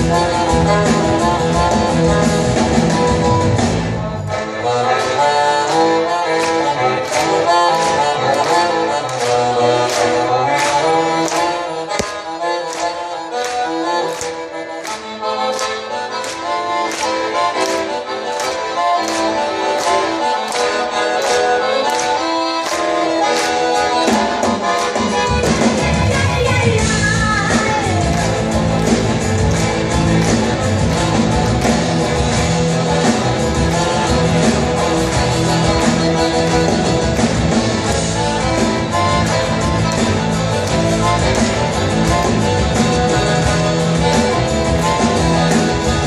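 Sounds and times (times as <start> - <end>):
accordion melody: 0.0 - 46.0
bass and band playing: 0.0 - 46.0.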